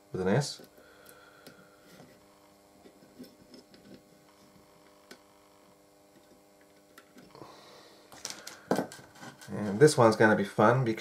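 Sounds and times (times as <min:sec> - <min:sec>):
faint mains hum: 0:00.0 - 0:11.0.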